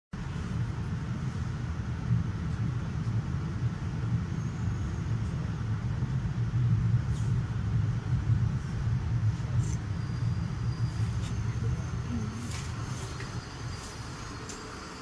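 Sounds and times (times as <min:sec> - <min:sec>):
rumble of moving vehicles: 0:00.1 - 0:15.0.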